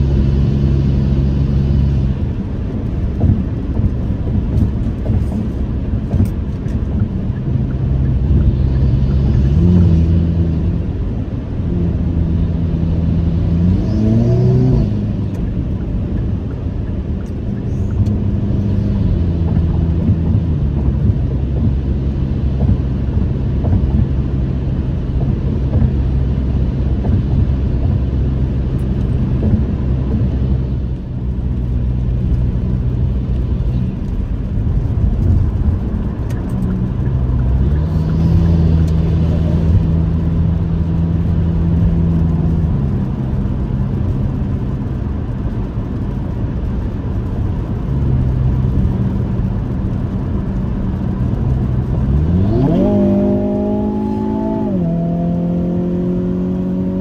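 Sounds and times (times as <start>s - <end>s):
car engine droning: 0.0s - 57.0s
tyre and road noise: 0.0s - 57.0s.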